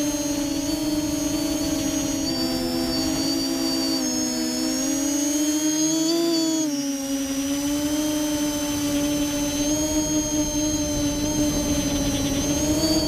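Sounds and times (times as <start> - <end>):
drone motors whirring: 0.0 - 13.0.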